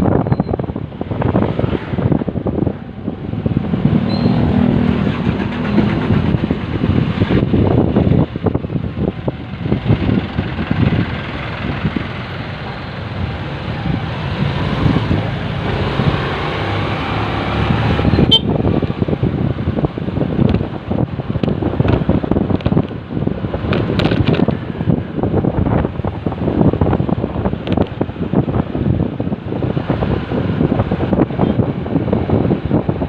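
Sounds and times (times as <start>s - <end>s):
motorcycle engine and road rumble: 0.0s - 33.0s.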